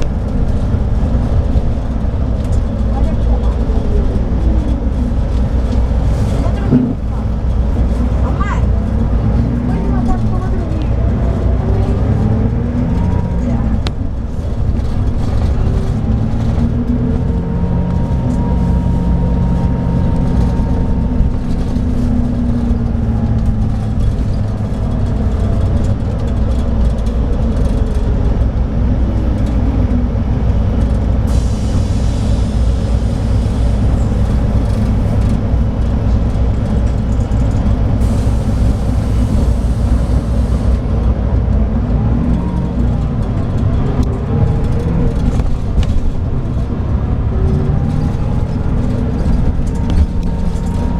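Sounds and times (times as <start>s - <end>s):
diesel engine drone: 0.0s - 50.9s.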